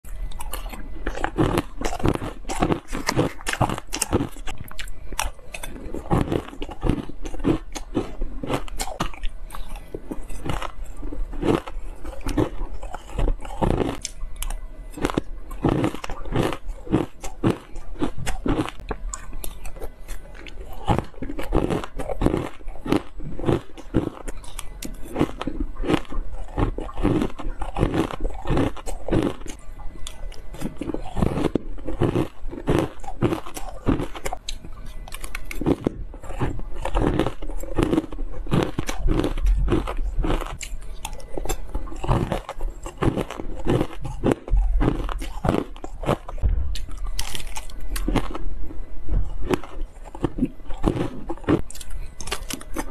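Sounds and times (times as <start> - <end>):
person crunching shaved ice: 0.1 - 52.9.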